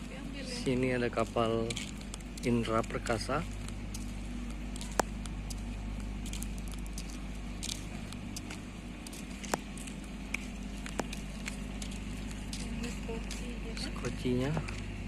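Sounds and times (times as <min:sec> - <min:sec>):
diesel machinery idling: 0:00.0 - 0:15.0.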